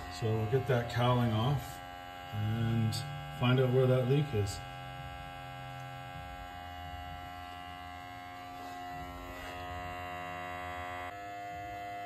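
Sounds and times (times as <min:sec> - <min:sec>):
air pump electric hum: 0:00.0 - 0:12.0.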